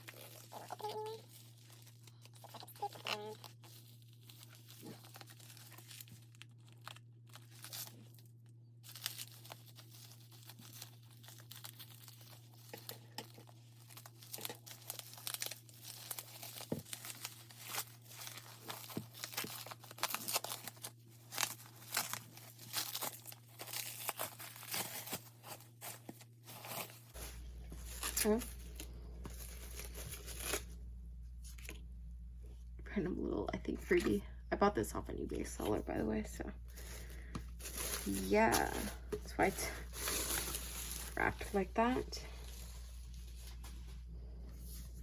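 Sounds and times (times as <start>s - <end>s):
wrapping torn and crinkled: 0.0s - 32.0s, 36.6s - 45.0s.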